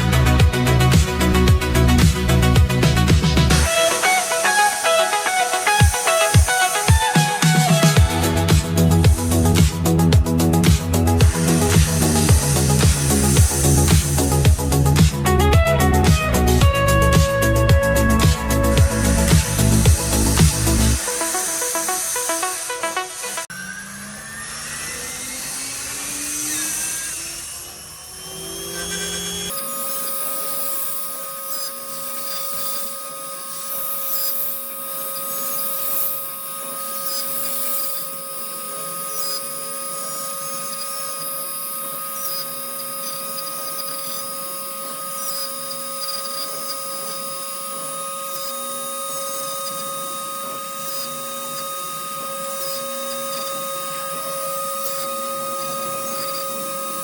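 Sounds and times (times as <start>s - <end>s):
router spindle whine: 0.0s - 57.0s
mechanical movement noise: 1.1s - 57.0s.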